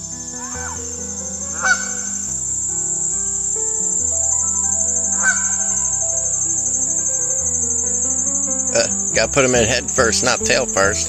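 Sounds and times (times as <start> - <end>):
background music: 0.0 - 11.0
insects trilling: 0.0 - 11.0.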